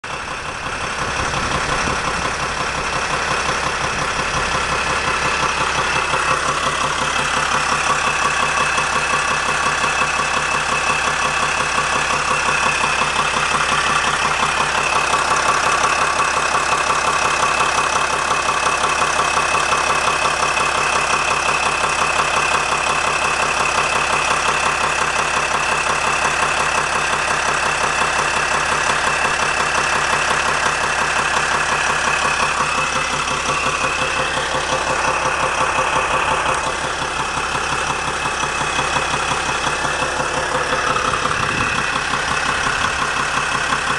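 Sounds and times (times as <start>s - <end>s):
van engine idling: 0.0s - 43.9s.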